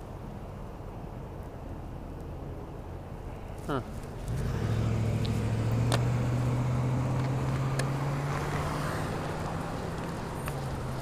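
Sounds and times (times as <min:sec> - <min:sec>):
vehicle engine running: 0:01.9 - 0:11.0.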